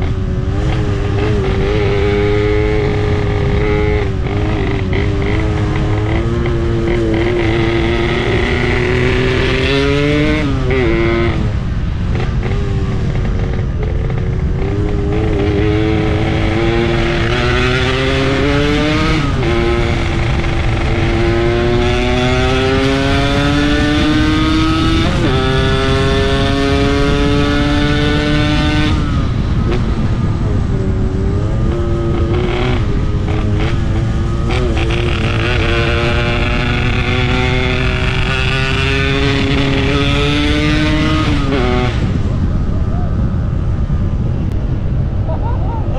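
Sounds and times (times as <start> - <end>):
motorcycle engine accelerating: 0.0 - 45.9
wind and road rumble: 0.0 - 45.9.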